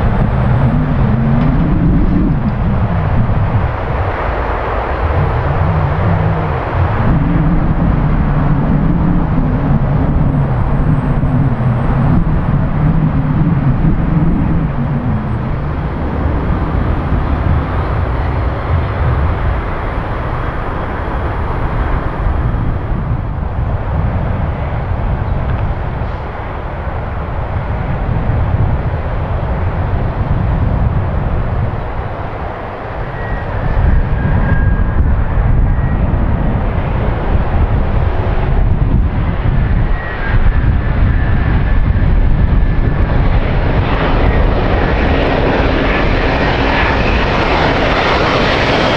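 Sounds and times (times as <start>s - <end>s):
jet airliner engine noise: 0.0s - 48.9s.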